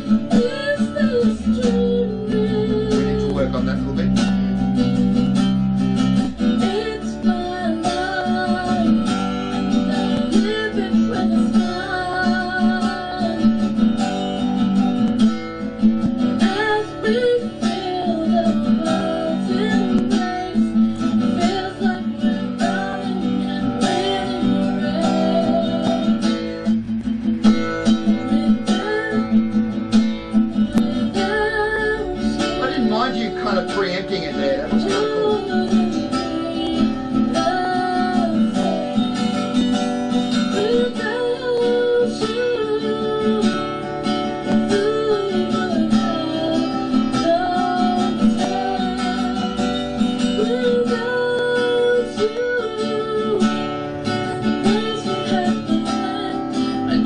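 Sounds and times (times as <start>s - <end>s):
person singing: 0.0s - 4.2s, 6.3s - 14.0s, 16.4s - 26.6s, 28.0s - 57.0s
acoustic guitar strummed: 0.0s - 57.0s.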